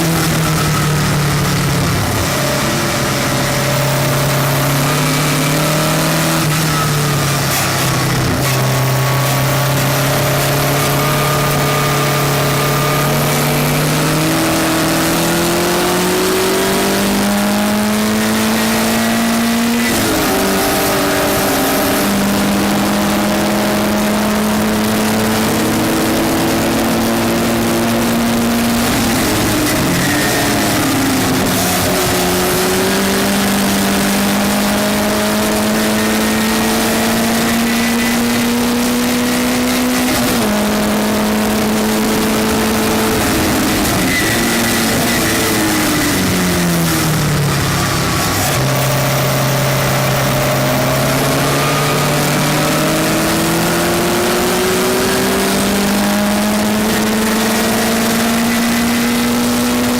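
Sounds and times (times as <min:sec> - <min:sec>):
race car engine revving: 0:00.0 - 0:59.9
wind and road noise: 0:00.0 - 0:59.9.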